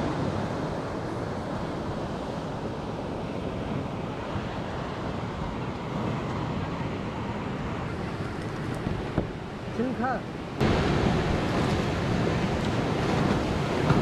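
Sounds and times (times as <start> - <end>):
sea surf: 0.0 - 14.0.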